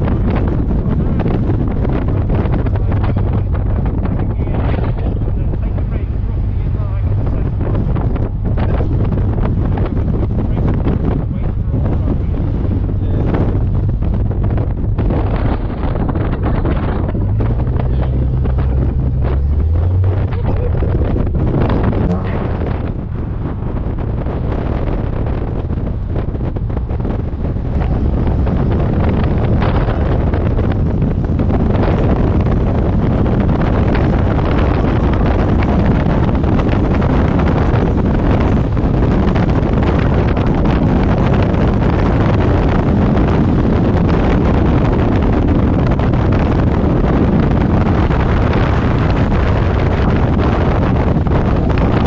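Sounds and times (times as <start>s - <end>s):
motorcycle engine running: 0.0s - 52.0s
road noise: 0.0s - 52.0s
wind rushing over microphone: 0.0s - 52.0s.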